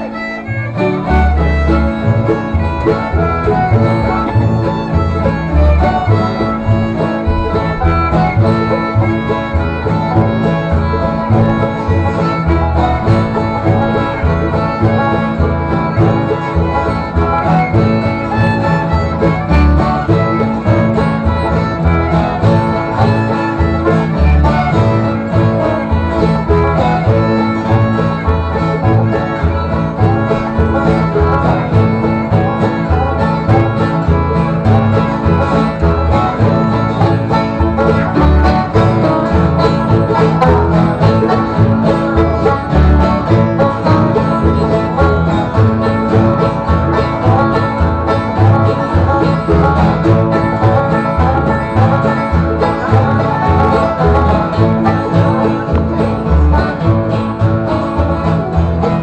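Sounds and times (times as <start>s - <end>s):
fiddle playing: 0.0s - 59.0s
strummed acoustic guitars: 0.0s - 59.0s
upright bass thumping: 0.0s - 59.0s.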